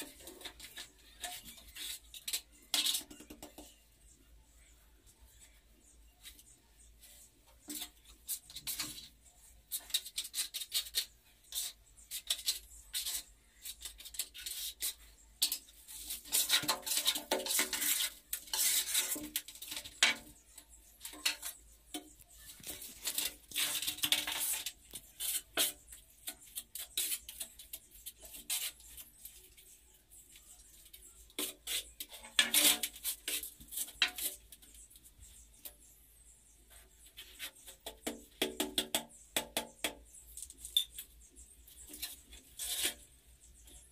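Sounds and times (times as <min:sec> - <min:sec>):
tiling tool scraping: 0:06.2 - 0:35.7, 0:36.5 - 0:43.9.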